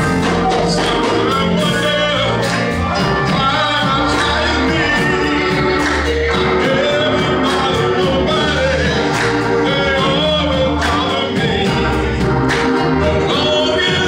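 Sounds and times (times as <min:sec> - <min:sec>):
instrumental accompaniment with bass: 0:00.0 - 0:14.0
male chorus singing gospel: 0:00.0 - 0:14.0.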